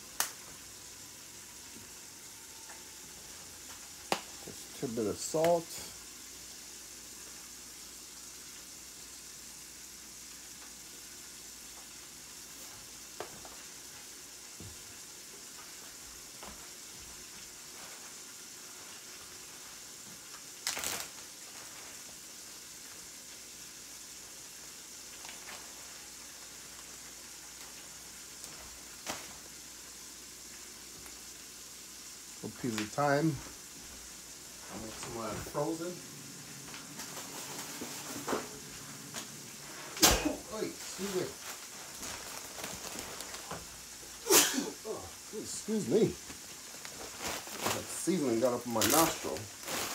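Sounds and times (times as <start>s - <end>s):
pot hissing on stove: 0.0s - 49.9s.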